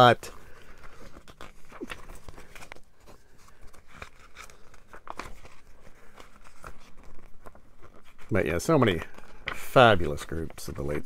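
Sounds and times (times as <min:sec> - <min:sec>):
booklet pages turning: 0:00.0 - 0:11.0.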